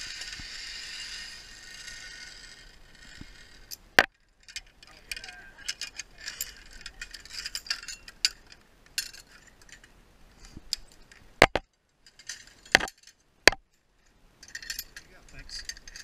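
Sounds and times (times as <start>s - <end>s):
metal carabiners clinking: 0.0s - 16.0s.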